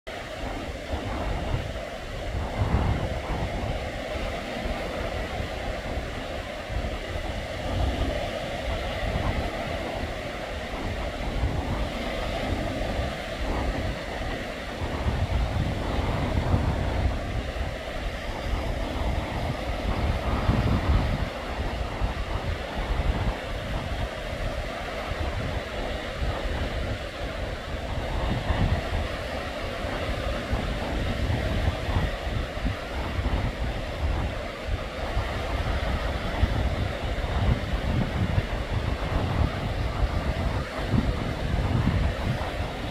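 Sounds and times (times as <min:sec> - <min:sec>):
small waves on stony shore: 0:00.1 - 0:42.9
wind buffeting microphone: 0:00.1 - 0:42.9.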